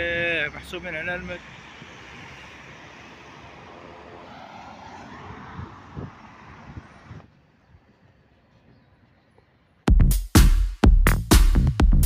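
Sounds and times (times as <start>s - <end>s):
outdoor background rush: 0.0s - 9.9s.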